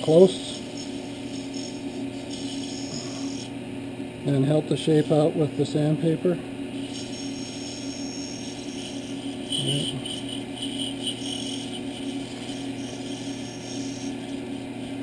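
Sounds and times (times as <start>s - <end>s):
lathe motor humming: 0.0s - 4.0s, 6.4s - 15.0s.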